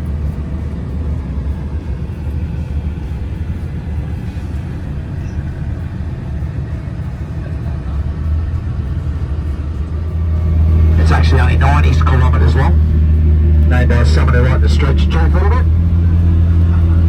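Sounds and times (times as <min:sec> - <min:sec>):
large vehicle engine droning: 0:00.0 - 0:17.0.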